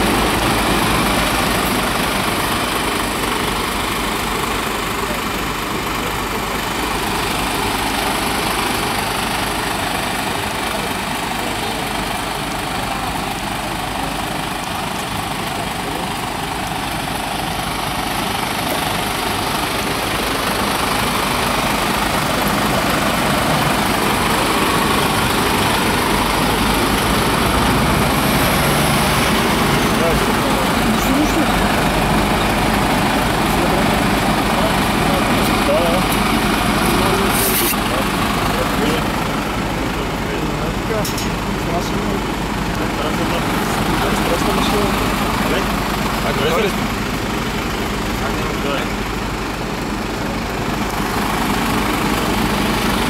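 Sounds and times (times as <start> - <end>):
truck diesel engine idling: 0.0 - 53.0.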